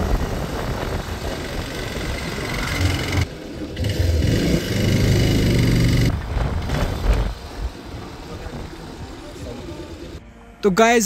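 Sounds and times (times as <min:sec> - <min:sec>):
motorcycle engine running: 0:00.0 - 0:10.2
wind and road noise: 0:00.0 - 0:10.4.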